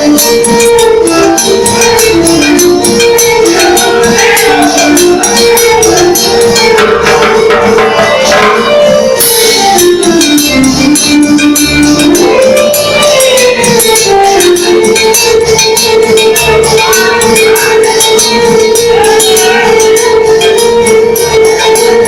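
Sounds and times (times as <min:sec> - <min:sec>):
fast percussion beat: 0:00.0 - 0:22.0
keyboard melody of held notes: 0:00.0 - 0:22.0.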